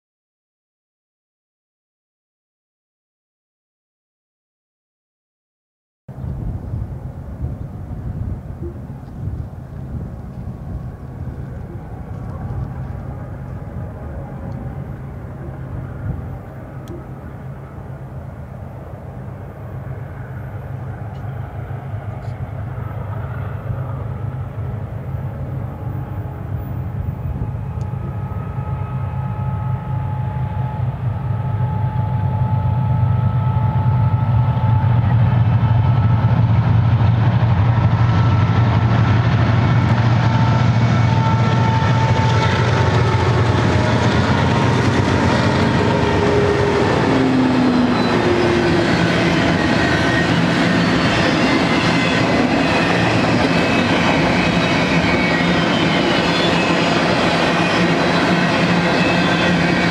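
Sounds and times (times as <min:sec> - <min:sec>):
diesel locomotive engines droning: 0:06.1 - 0:59.9
train wheels rolling on rails: 0:06.2 - 0:59.9.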